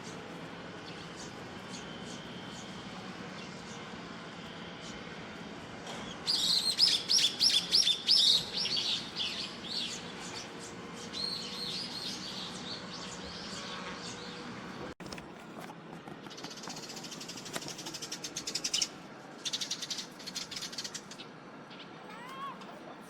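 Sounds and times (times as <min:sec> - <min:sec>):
sparrows chirping: 0:00.0 - 0:05.2, 0:05.9 - 0:14.9, 0:16.3 - 0:22.1.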